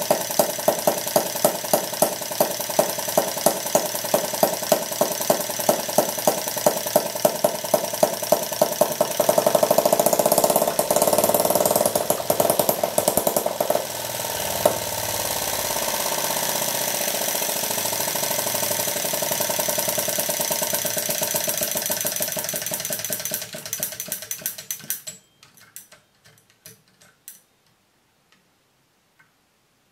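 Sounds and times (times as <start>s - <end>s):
model engine running: 0.0s - 24.5s.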